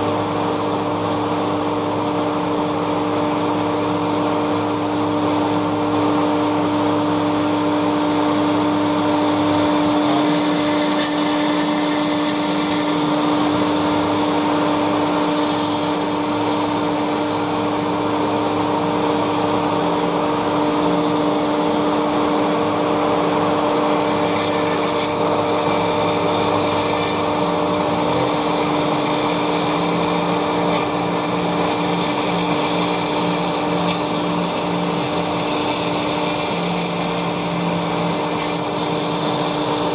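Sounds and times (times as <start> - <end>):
cnc router cutting foam: 0.0 - 39.9.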